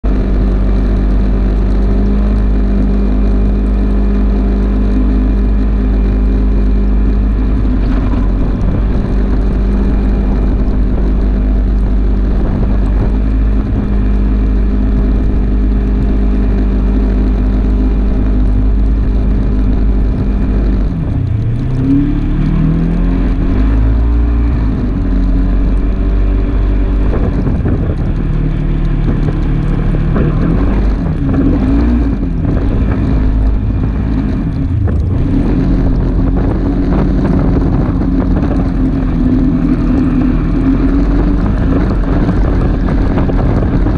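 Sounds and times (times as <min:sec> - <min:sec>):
single-cylinder engine running: 0:00.0 - 0:43.9.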